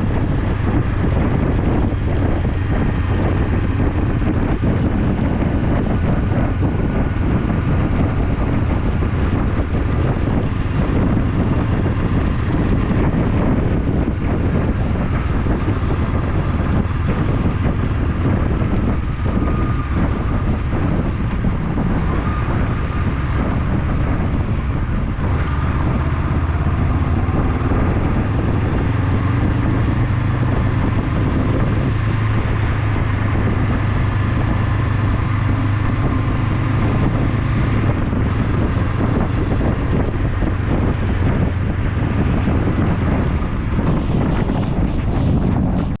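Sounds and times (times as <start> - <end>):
motorcycle engine rumbling: 0.0 - 46.0
wind buffeting microphone: 0.0 - 46.0.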